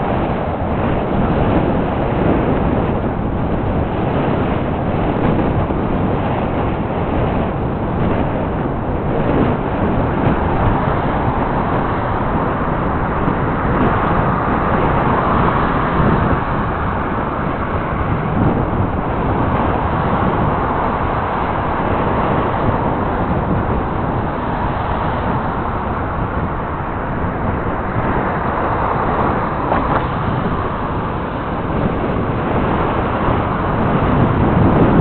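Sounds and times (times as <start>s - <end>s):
road noise: 0.0s - 35.0s
wind on microphone: 0.0s - 35.0s.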